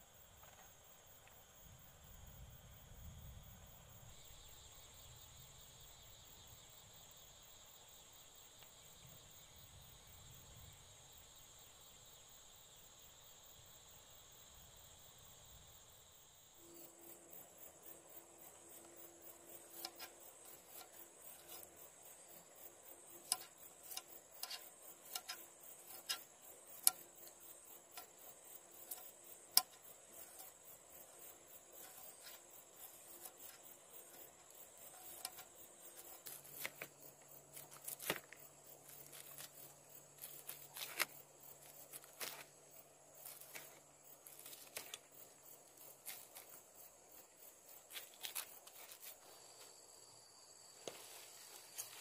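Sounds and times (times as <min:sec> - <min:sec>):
high insect chorus: 0:00.0 - 0:52.0.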